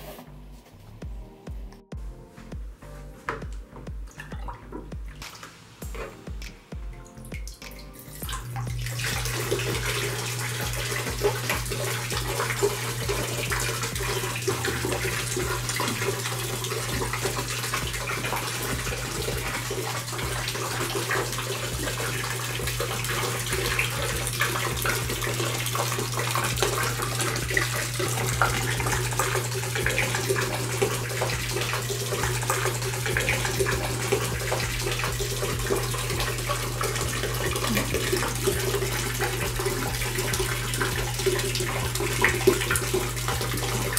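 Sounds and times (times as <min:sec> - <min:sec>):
water splashing into basin: 0:04.1 - 0:43.9.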